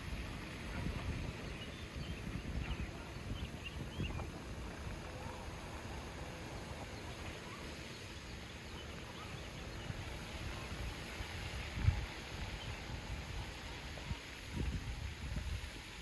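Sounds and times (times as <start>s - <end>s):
wind rumble on microphone: 0.0s - 7.6s, 9.6s - 16.0s.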